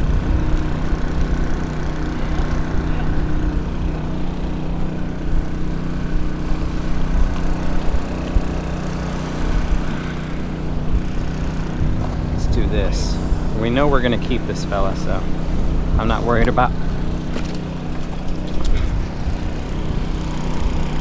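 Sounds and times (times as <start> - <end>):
portable generator running: 0.0 - 21.0.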